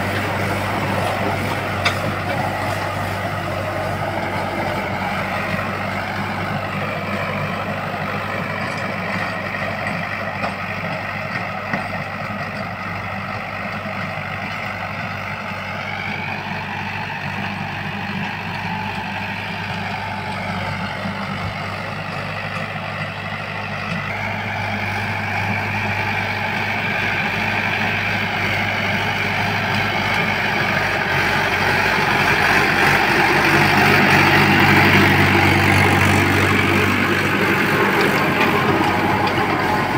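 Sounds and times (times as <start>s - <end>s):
rotavator tilling soil: 0.0s - 39.9s
tractor diesel engine under load: 0.0s - 39.9s.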